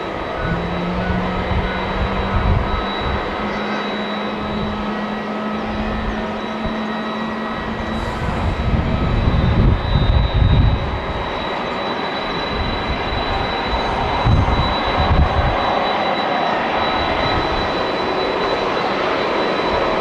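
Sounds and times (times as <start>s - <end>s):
low gusty rumble: 0.0s - 3.7s, 4.3s - 11.5s, 12.2s - 18.4s
high engine whine: 0.0s - 20.0s
jet engines roaring: 0.0s - 20.0s.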